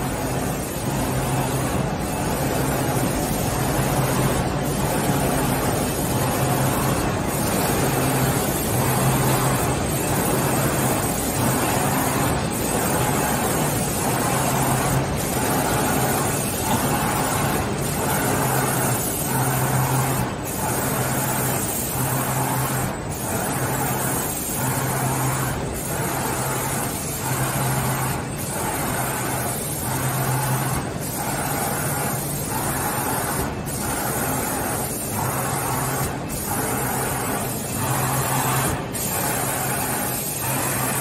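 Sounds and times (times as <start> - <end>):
conveyor machinery noise: 0.0 - 41.0.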